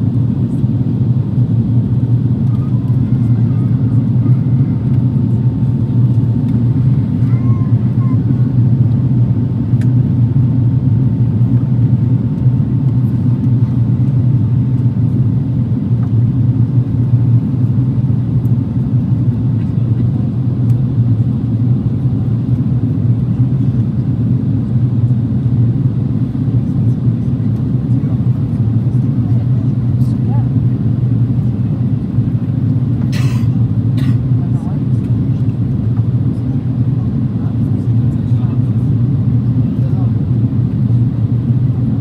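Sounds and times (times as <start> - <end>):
airliner cabin rumble: 0.0 - 42.0.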